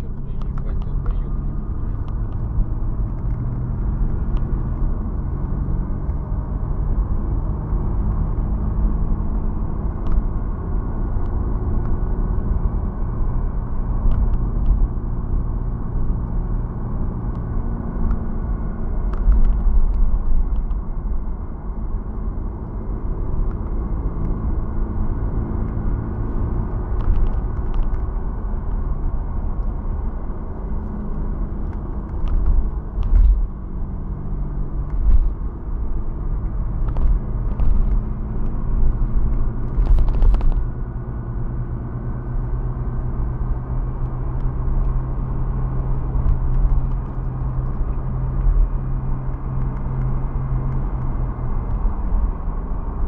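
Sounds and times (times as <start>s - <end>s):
low rumble in car cabin: 0.0s - 53.0s.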